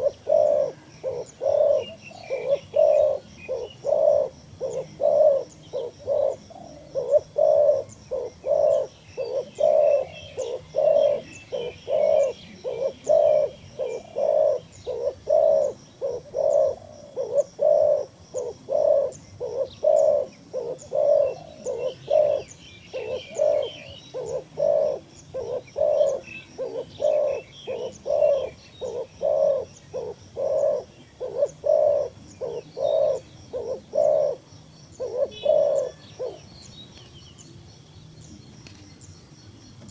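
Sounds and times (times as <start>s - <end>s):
dove cooing: 0.0s - 36.6s
small birds chirping: 0.0s - 39.9s.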